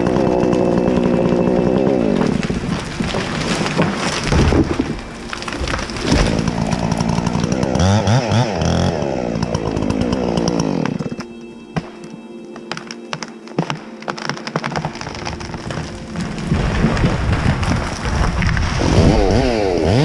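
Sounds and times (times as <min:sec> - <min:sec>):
chainsaw cutting wood: 0:00.0 - 0:20.0
sharp cracks and ticks: 0:00.0 - 0:20.0.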